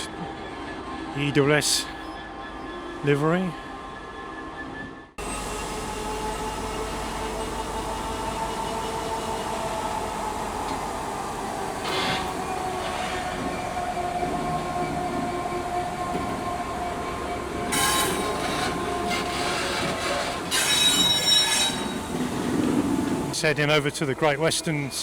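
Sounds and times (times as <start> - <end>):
diesel locomotive engine running: 0.0 - 25.0
steady squealing tones: 0.0 - 25.0.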